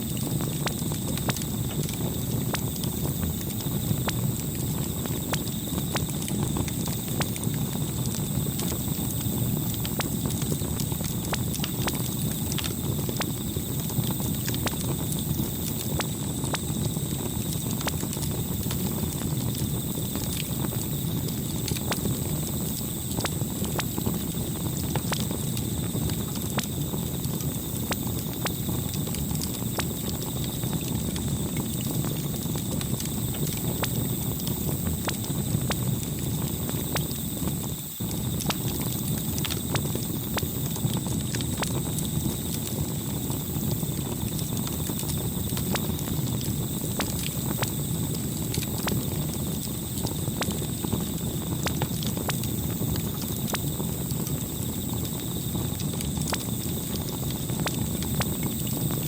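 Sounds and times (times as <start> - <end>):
campfire crackling: 0.0 - 59.0
low rumble of burning fire: 0.0 - 59.0.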